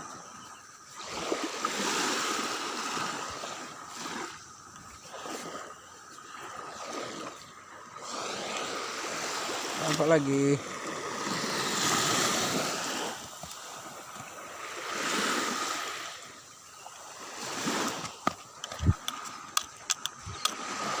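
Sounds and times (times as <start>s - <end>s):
sea water washing and splashing: 0.0s - 21.0s.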